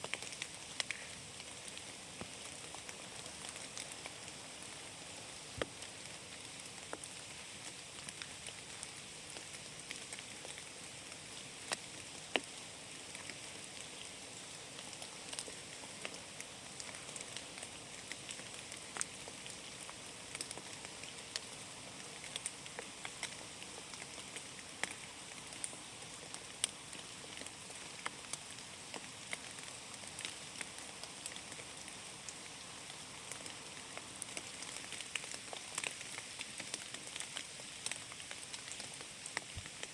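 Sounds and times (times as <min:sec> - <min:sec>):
rain hissing in forest: 0:00.0 - 0:39.9.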